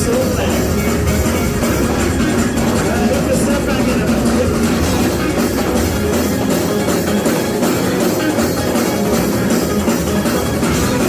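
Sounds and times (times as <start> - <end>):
fast driving drum kit: 0.0 - 11.0
gospel church band music: 0.0 - 11.0.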